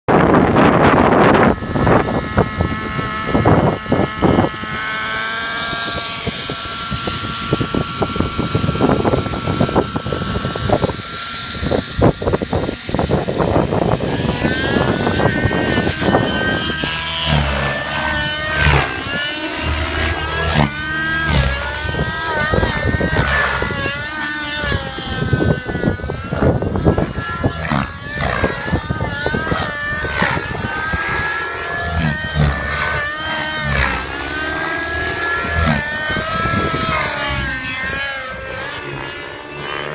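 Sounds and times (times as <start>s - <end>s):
model helicopter engine whine: 0.1s - 39.9s
wind buffeting microphone: 0.1s - 39.9s.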